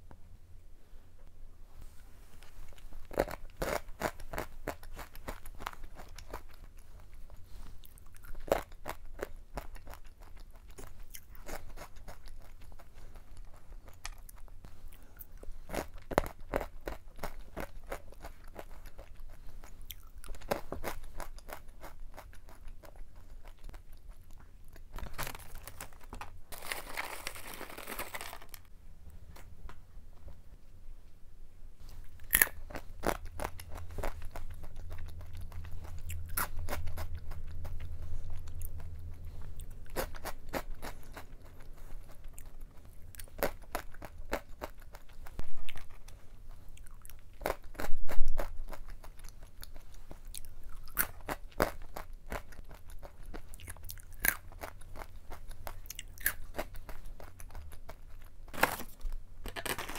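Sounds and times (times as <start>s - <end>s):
crunching and chewing: 2.4s - 28.7s, 31.9s - 59.9s.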